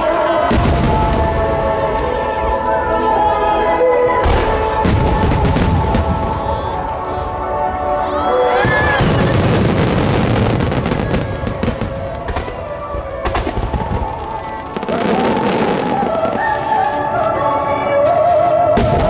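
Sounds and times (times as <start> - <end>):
fireworks bangs and crackles: 0.0 - 2.6, 4.2 - 7.7, 8.5 - 17.4, 18.6 - 19.0
music playing: 0.0 - 19.0.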